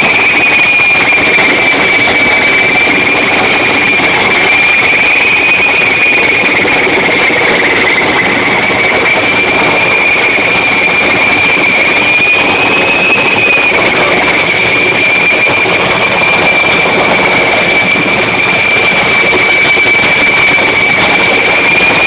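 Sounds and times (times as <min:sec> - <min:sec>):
helicopter turbine whine: 0:00.0 - 0:22.0
rotor rush: 0:00.0 - 0:22.0.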